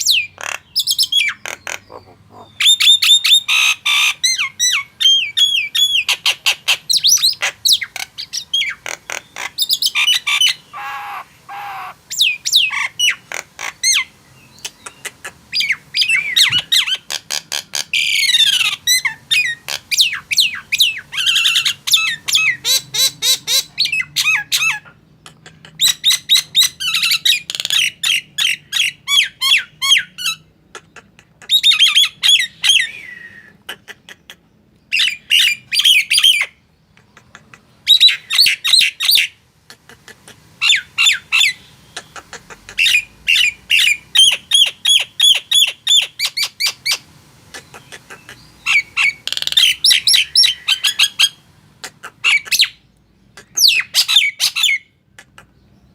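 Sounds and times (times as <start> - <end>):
myna bird whistling and squawking: 0.0 - 39.4, 40.6 - 55.6.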